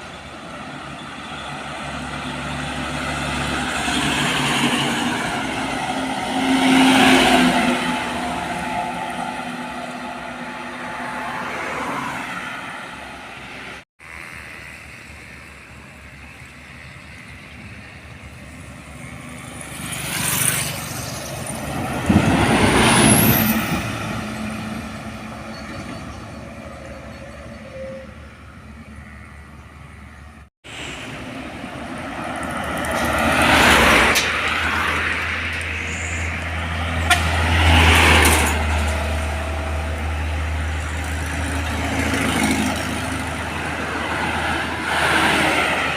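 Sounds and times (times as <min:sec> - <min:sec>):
diesel trucks passing: 0:00.0 - 0:45.9.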